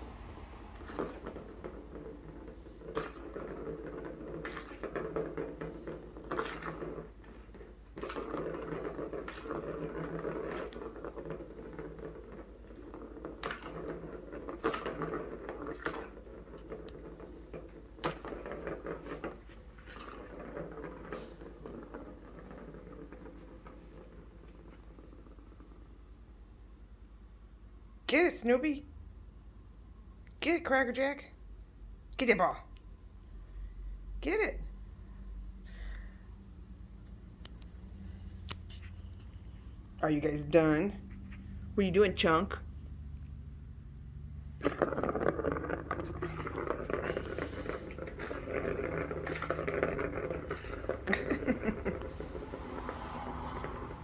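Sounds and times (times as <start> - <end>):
ball rolling and rattling: 0.0 - 54.0.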